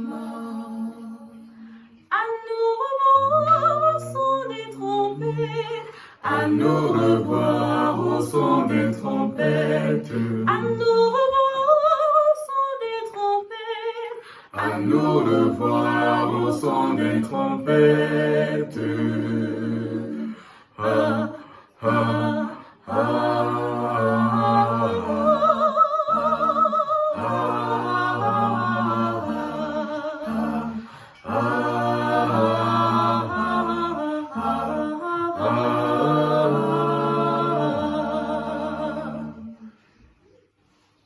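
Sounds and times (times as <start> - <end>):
a cappella harmony singing: 0.0 - 41.0.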